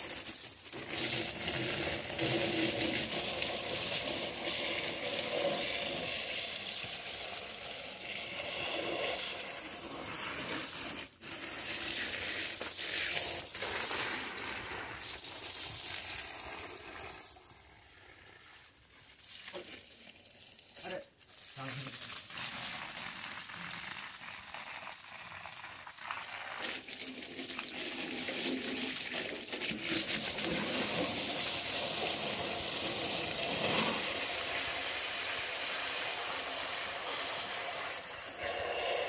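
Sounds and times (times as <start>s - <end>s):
hose water spraying on motorcycle: 0.0s - 39.0s.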